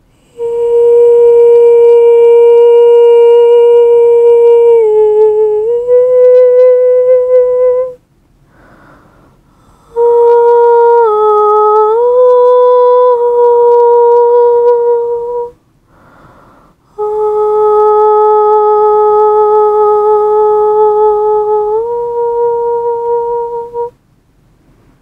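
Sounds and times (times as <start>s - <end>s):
person humming: 0.0s - 24.0s.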